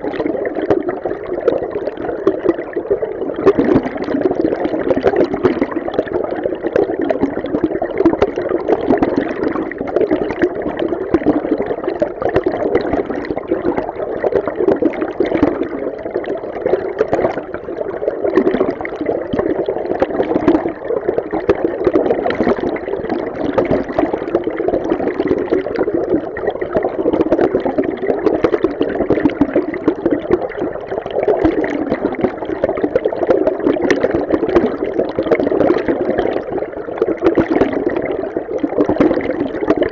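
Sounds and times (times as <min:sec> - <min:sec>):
underwater stream rushing: 0:00.0 - 0:39.9.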